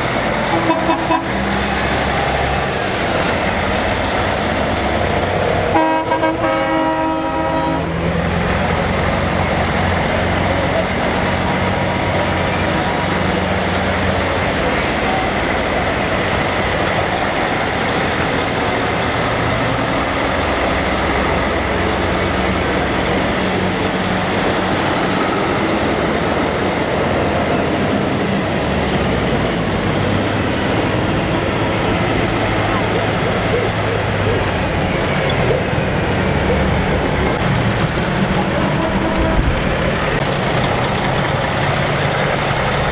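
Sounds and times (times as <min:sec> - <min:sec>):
heavy truck engines passing: 0:00.0 - 0:42.9.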